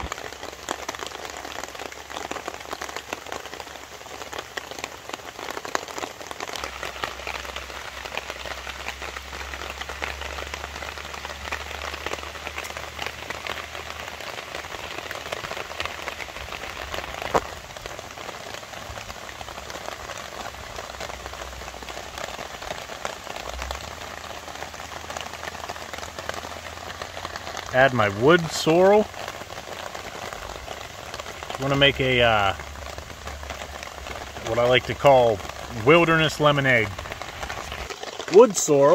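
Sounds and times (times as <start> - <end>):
heavy rain on a tarp: 0.0 - 38.9.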